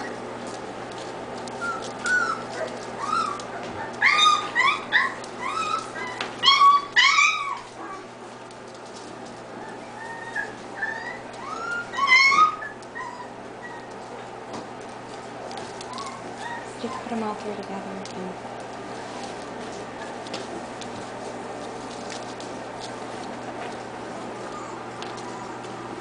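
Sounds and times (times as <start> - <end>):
puppies whining and yelping: 0.0 - 17.3, 18.9 - 26.0.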